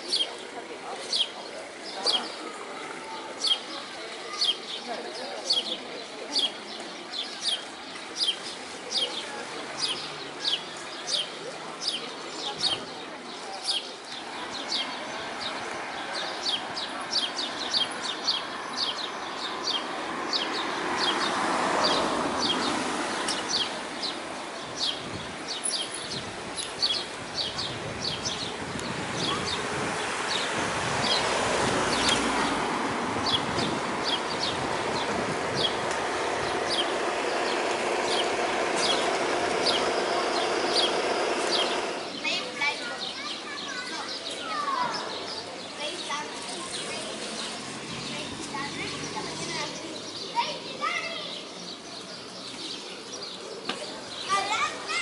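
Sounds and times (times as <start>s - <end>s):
small birds chirping: 0.0s - 55.0s
street traffic: 0.0s - 55.0s.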